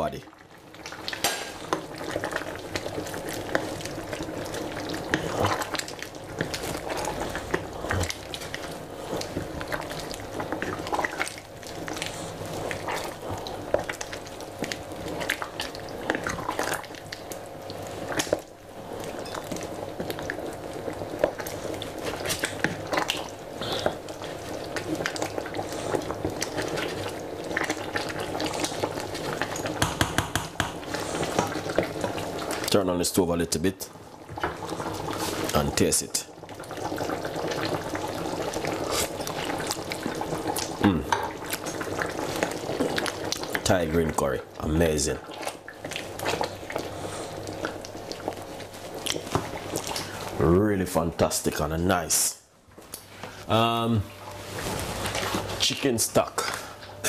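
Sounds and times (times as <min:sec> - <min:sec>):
curry bubbling in pot: 0:00.0 - 0:52.1, 0:54.2 - 0:57.0.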